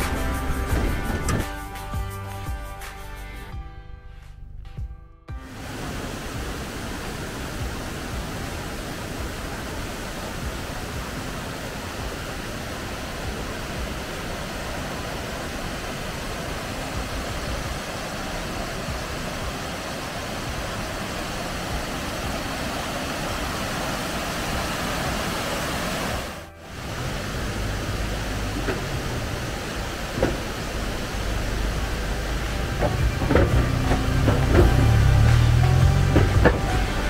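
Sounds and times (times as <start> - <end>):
waterfall rushing over rocks: 5.4 - 37.0.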